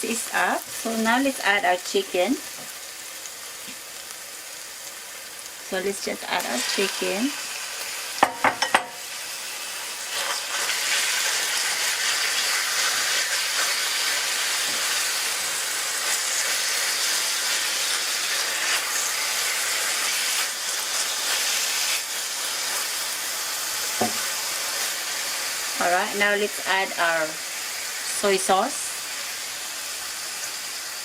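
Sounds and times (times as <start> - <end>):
chicken sizzling in skillet: 0.0 - 31.0.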